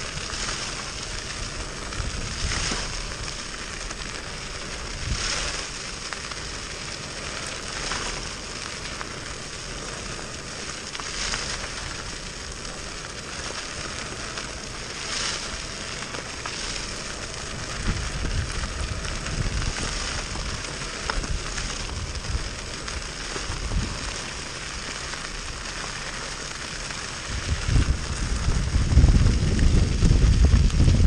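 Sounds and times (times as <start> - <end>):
skateboard wheels rolling on gravel: 0.0 - 31.0
wind rumble on microphone: 0.0 - 31.0.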